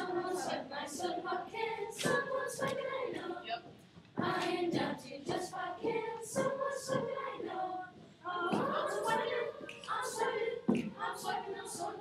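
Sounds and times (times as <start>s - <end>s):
children's choir singing: 0.0s - 3.6s, 4.2s - 12.0s.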